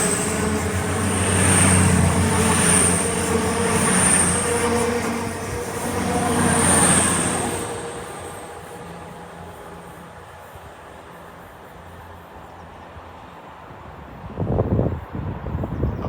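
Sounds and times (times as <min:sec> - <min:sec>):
train rumble and wheel noise: 0:00.0 - 0:16.0.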